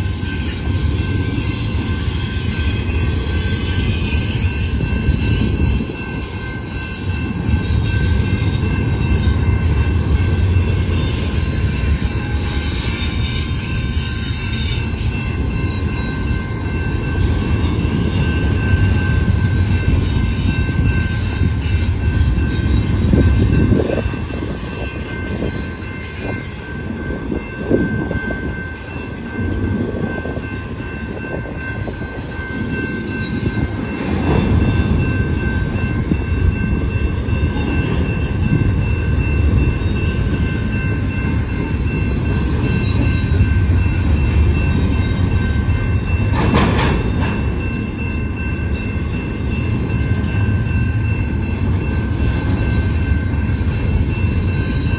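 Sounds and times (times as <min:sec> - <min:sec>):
freight train rolling past: 0:00.0 - 0:54.9
high ringing tones: 0:00.0 - 0:54.9.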